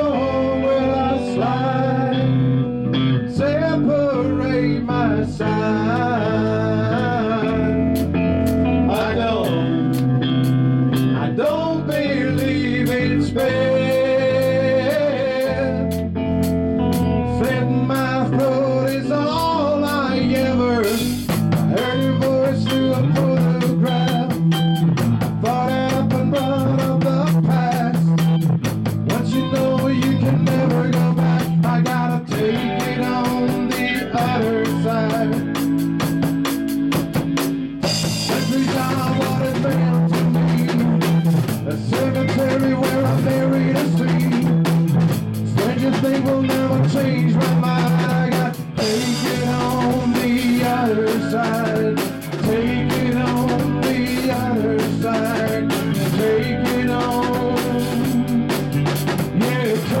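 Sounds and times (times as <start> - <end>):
guitar: 0.0 - 60.0
rock music: 0.0 - 60.0
drum kit beat: 6.9 - 60.0.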